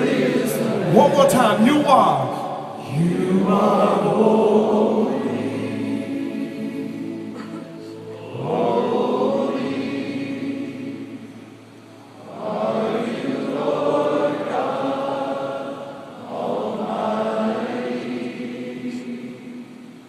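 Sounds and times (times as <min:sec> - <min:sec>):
group of men singing: 0:00.0 - 0:11.2, 0:12.3 - 0:19.6.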